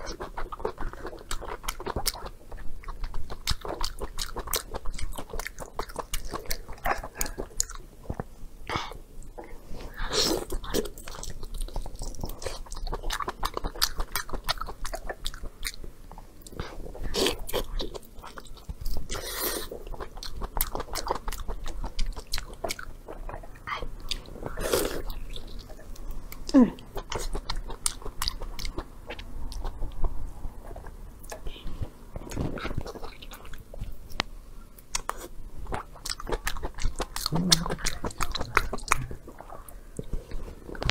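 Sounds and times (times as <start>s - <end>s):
wet chewing and mouth clicks: 0.0s - 8.3s, 10.3s - 31.5s, 32.2s - 40.9s.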